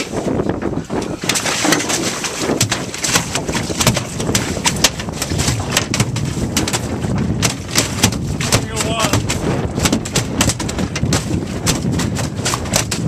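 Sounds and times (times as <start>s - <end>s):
fish slapping on metal deck: 0.9s - 13.0s.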